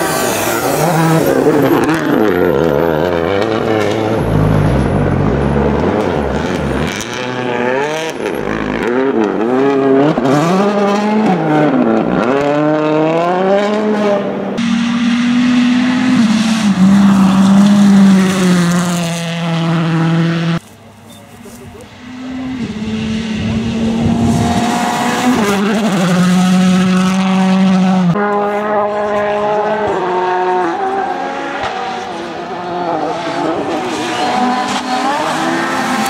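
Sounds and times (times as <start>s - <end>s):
rally car engine at full throttle: 0.0s - 36.0s.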